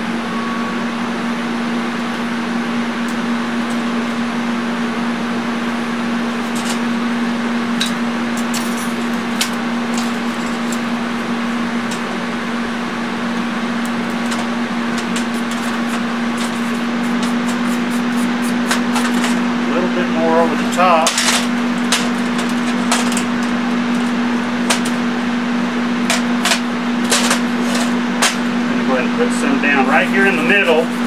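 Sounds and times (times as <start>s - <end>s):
fan hum: 0.0s - 31.0s.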